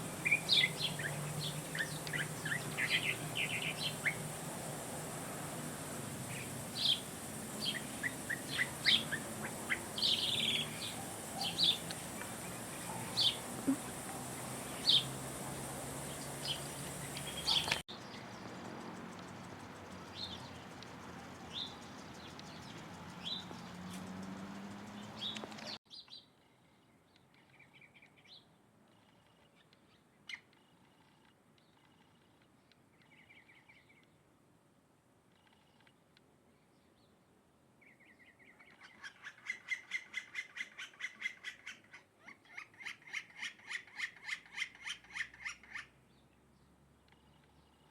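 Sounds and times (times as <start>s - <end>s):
songbirds chirping: 0.0s - 34.5s, 35.3s - 47.9s.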